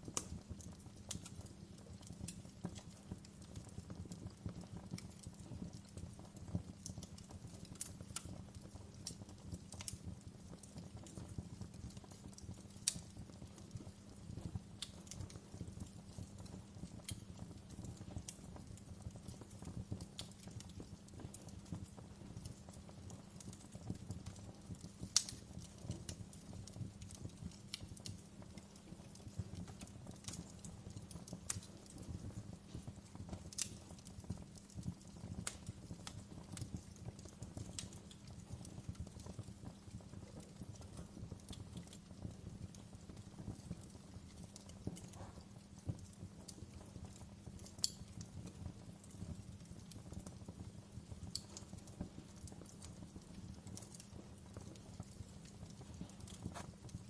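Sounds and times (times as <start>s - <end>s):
sharp pops and snaps of fire: 0.0s - 57.0s
wood fire crackling: 0.0s - 57.0s.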